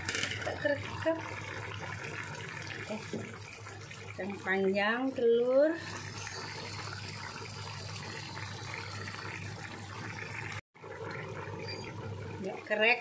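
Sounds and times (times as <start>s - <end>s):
stew bubbling: 0.0s - 13.0s.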